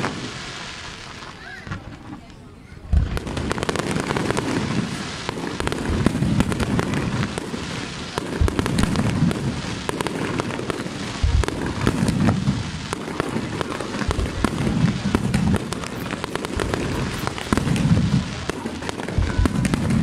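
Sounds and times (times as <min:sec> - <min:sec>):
heavy firework booms: 0:00.0 - 0:02.2, 0:02.8 - 0:20.0
fireworks bangs and crackling: 0:00.0 - 0:20.0.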